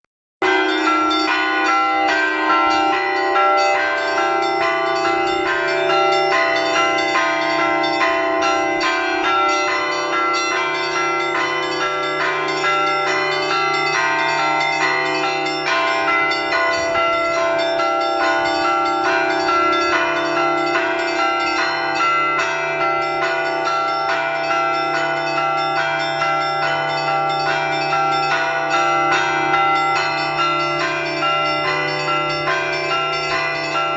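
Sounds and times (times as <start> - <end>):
deep bell tone: 0.4 - 33.9
large bells ringing: 0.4 - 33.9.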